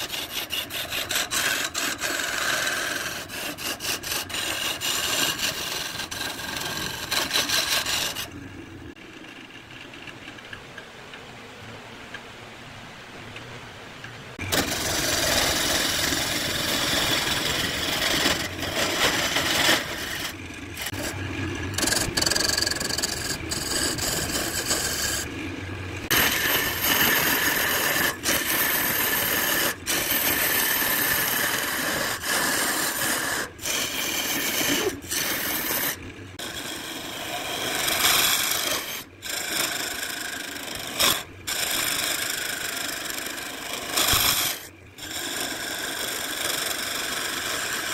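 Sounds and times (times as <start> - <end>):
lathe gouge scraping hiss: 0.0 - 8.3, 14.4 - 25.3, 26.0 - 47.9.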